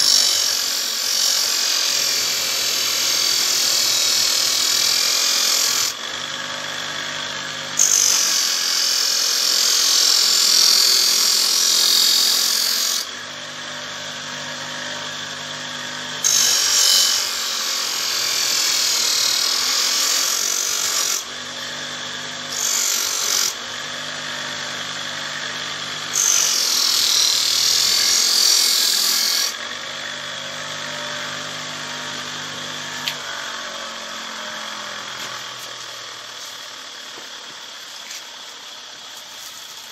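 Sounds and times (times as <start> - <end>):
knife sharpening machine running: 0.0 - 39.9.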